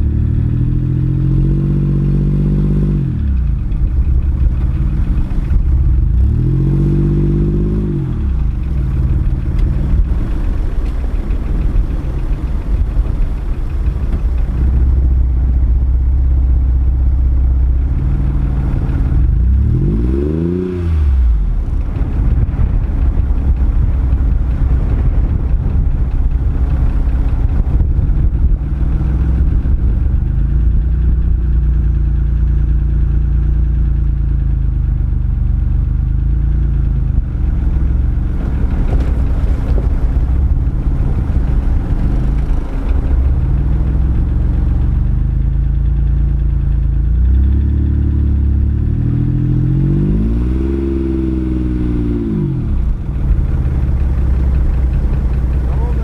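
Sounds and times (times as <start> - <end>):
suv engine revving under load: 0.0 - 56.0.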